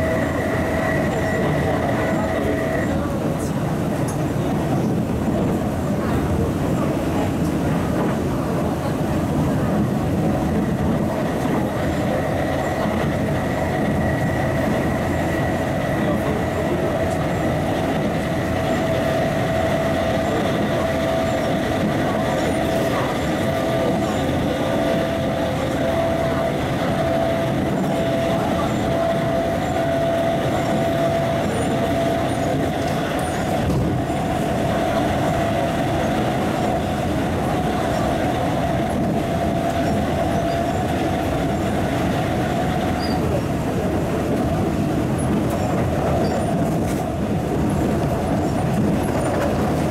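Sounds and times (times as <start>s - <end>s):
steady train whine: 0.0s - 49.9s
train wheels rumbling on track: 0.0s - 49.9s.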